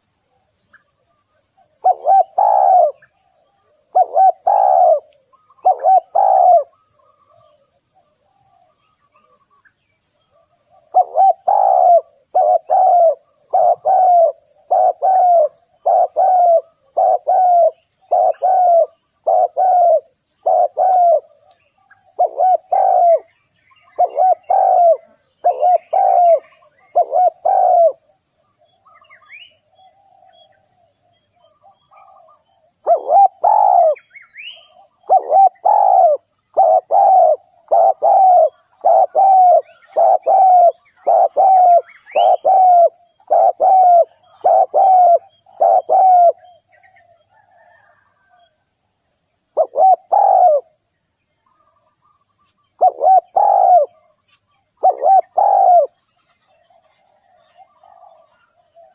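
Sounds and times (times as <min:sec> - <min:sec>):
dove cooing: 0:01.6 - 0:09.5, 0:10.3 - 0:28.1, 0:28.8 - 0:48.5, 0:49.5 - 0:50.8, 0:52.8 - 0:58.9.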